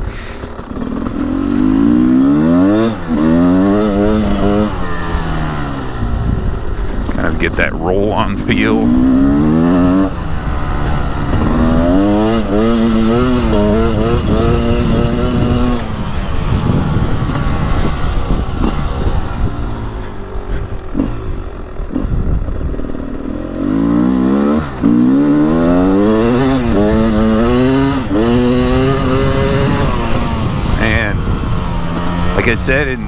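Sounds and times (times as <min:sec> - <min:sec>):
two-stroke motorcycle engine revving: 0:00.0 - 0:33.0.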